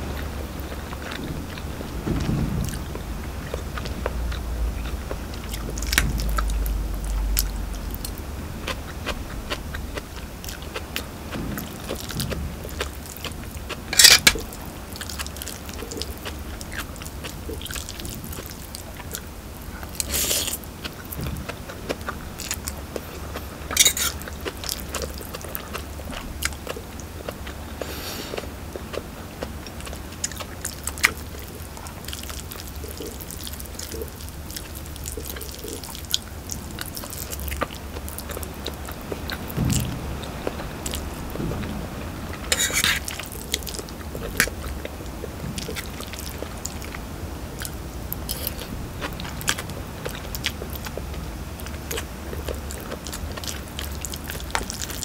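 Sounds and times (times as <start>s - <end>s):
chewing and slurping noodles: 0.0s - 41.7s, 42.3s - 55.0s.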